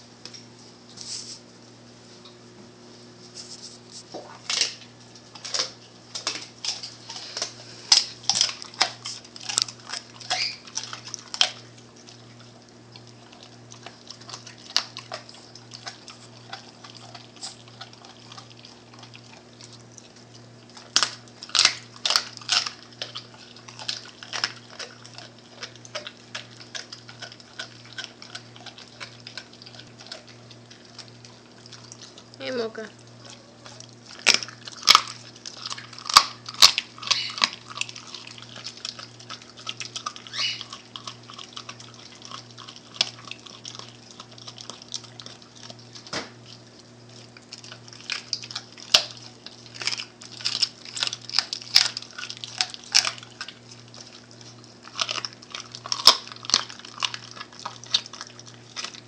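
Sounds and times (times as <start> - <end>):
dog chewing wet meat: 3.4 - 59.0.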